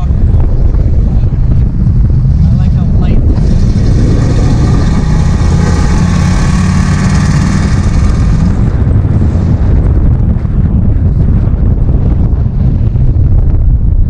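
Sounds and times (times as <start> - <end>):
road and wind noise: 0.0 - 14.0
truck engine drone: 0.0 - 14.0.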